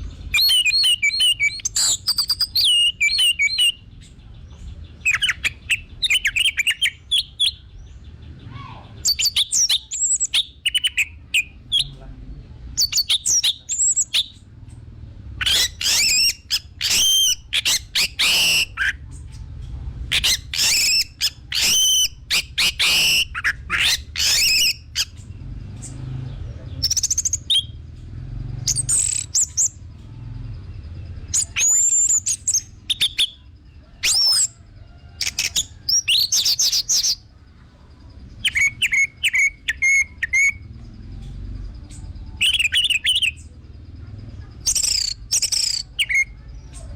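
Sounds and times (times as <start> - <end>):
faint low hum: 3.8 - 46.9.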